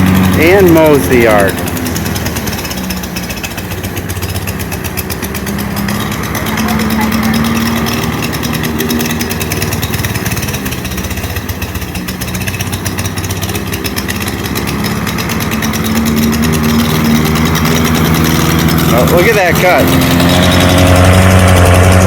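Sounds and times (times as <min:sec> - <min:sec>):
lawn mower engine cutting grass: 0:00.0 - 0:22.0.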